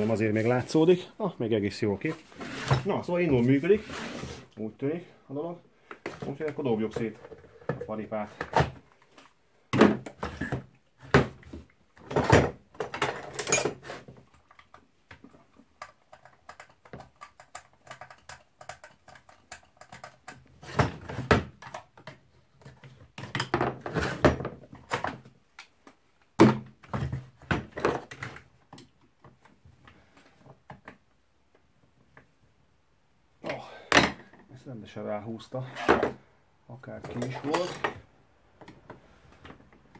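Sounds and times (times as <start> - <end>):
clunks and knocks of parts and tools: 2.1 - 3.6, 5.8 - 32.4, 33.4 - 34.6, 35.6 - 39.9.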